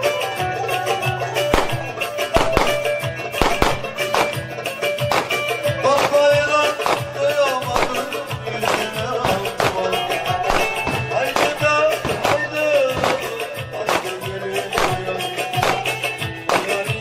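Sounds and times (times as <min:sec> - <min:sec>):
live folk dance music: 0:00.0 - 0:17.0.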